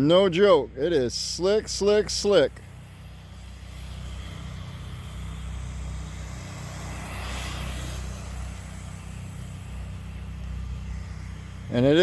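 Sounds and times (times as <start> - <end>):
electric motor whining: 2.2 - 12.0.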